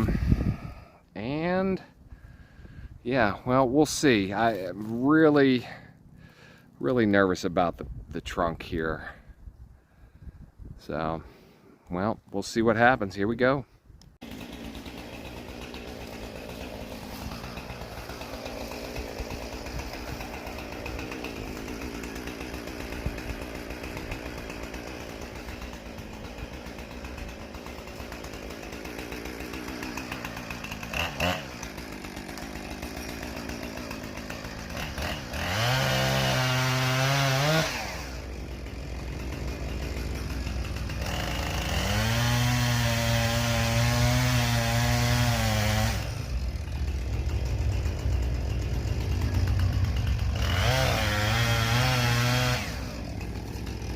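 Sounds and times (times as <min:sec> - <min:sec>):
chainsaw idling and revving: 0:00.0 - 0:07.5, 0:14.2 - 0:53.9.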